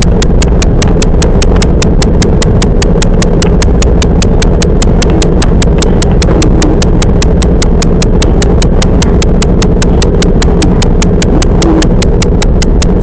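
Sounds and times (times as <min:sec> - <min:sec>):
electric train rumbling: 0:00.0 - 0:13.0
rapid even ticking: 0:00.0 - 0:13.0.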